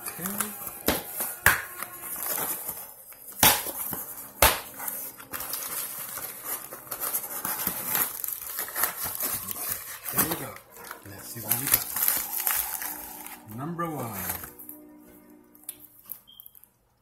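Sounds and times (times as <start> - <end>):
packaging rustling and crinkling: 0.0 - 14.8.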